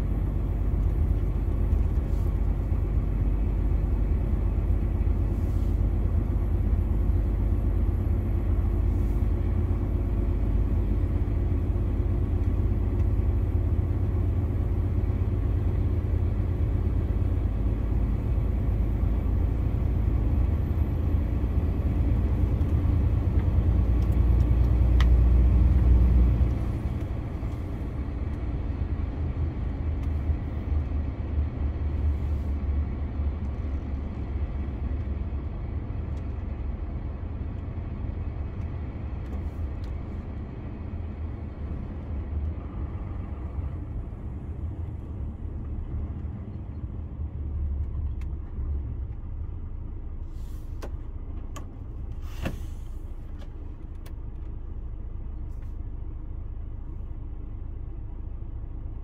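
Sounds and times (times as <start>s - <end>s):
lorry diesel engine rumble: 0.0s - 59.0s.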